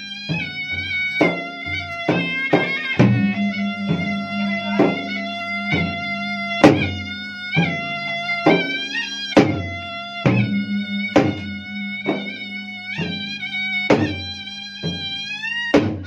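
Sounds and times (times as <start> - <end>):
reedy shawm melody: 0.0 - 16.0
barrel drums beating: 0.3 - 16.0.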